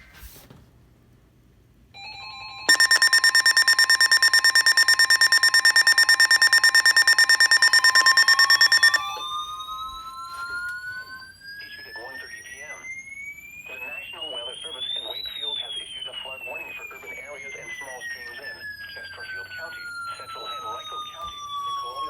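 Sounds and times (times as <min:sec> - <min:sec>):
steady high alert tone: 0:02.0 - 0:11.2, 0:11.8 - 0:22.0
pulsing electronic alarm beep: 0:02.7 - 0:22.0.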